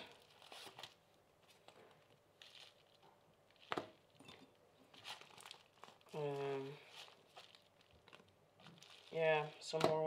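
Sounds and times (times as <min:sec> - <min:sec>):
paper rustling: 0:00.0 - 0:04.2, 0:04.9 - 0:10.0.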